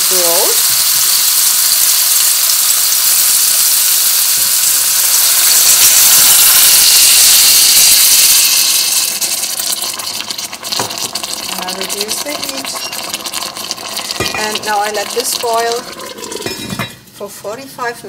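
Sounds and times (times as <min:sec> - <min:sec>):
broth sizzling in hot oil: 0:00.0 - 0:16.8.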